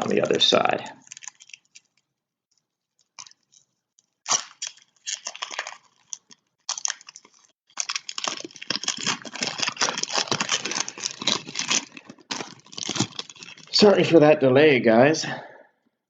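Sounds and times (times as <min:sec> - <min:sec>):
wrapper tearing and crinkling: 0:00.0 - 0:02.1, 0:03.0 - 0:13.9.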